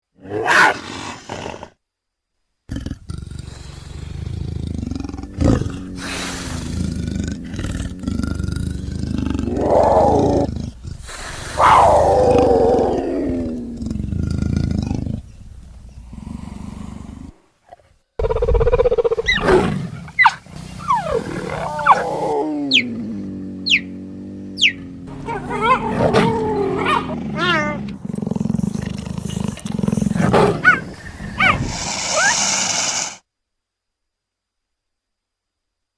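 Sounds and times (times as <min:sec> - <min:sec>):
big cat growling and snarling: 0:02.7 - 0:33.2.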